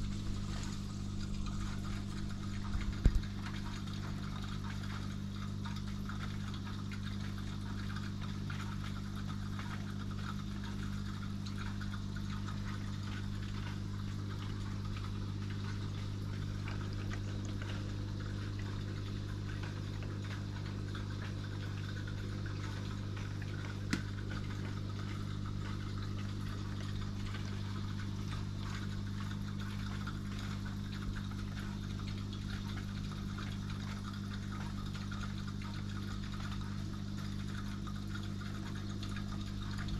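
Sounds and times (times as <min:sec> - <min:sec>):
aquarium pump humming: 0:00.0 - 0:39.9
water running in tank: 0:00.0 - 0:39.9.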